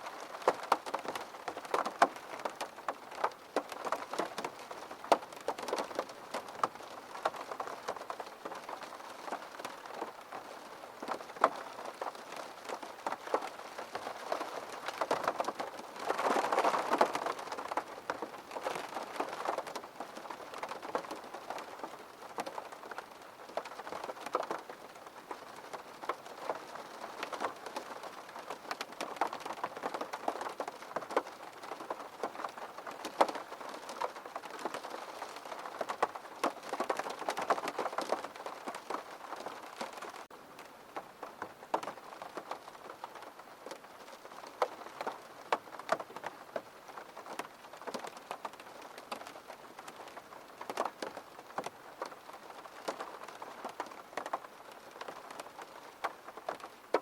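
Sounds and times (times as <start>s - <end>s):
rain drops ticking on a surface: 0.0s - 57.0s.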